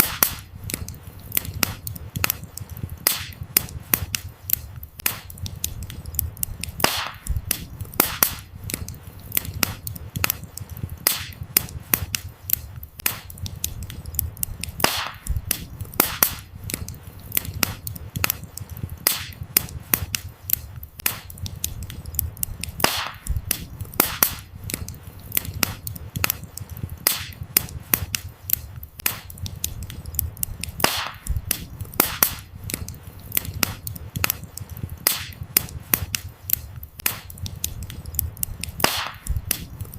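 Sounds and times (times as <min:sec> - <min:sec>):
firewood crackling and popping: 0:00.0 - 0:39.9
low rumble of flames: 0:00.0 - 0:39.9.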